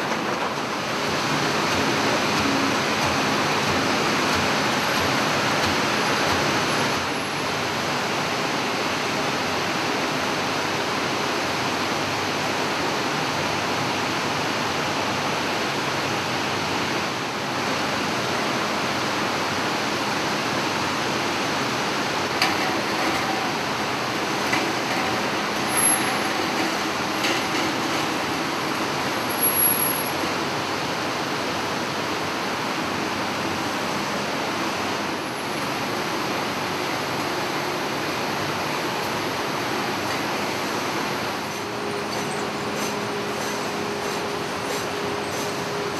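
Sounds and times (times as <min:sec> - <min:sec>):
conveyors and motors running: 0:00.0 - 0:45.9.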